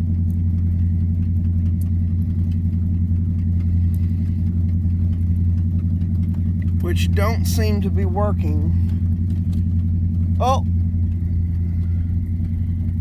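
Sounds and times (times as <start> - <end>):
pickup engines idling: 0.0 - 13.0.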